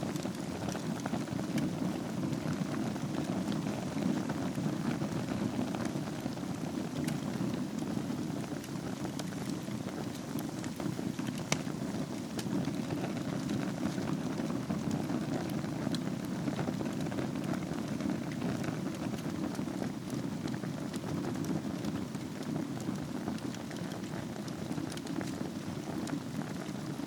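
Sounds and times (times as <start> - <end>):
fire crackling and popping: 0.0 - 27.0
fire flame rushing: 0.0 - 27.0.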